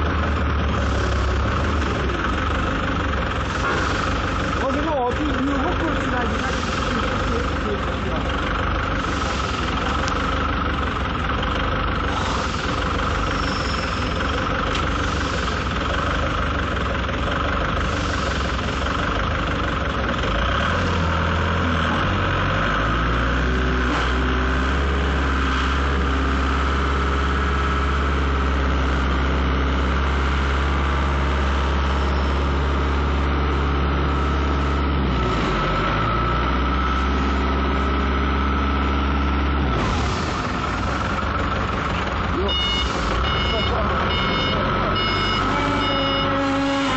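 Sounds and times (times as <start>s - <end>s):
forklift engine idling: 0.0s - 46.9s.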